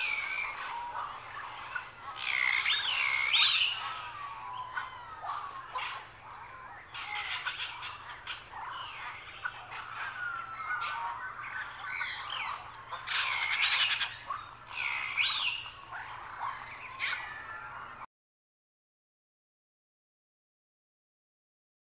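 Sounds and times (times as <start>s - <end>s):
birds chirping and whistling: 0.0s - 18.0s.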